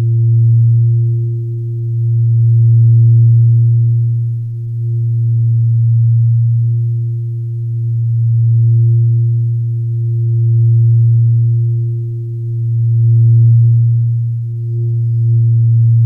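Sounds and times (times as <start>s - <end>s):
faint higher tone: 0.0s - 16.0s
low drone tone: 0.0s - 16.0s.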